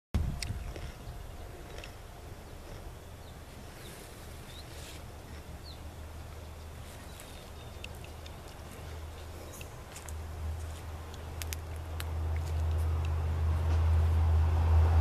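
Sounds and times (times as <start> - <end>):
low rumble: 0.2 - 6.8, 7.5 - 15.0.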